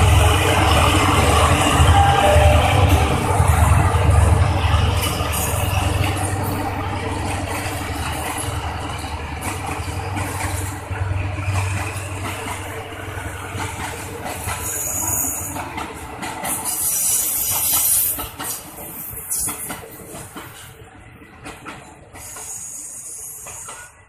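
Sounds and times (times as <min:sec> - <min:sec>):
diesel locomotive engine rumble: 0:00.0 - 0:24.0
train coaches rolling on rails: 0:00.0 - 0:24.0.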